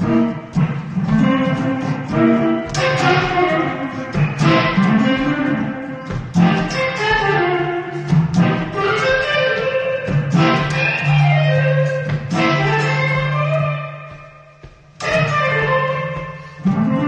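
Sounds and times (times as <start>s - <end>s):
electric guitar playing: 0.0s - 17.0s.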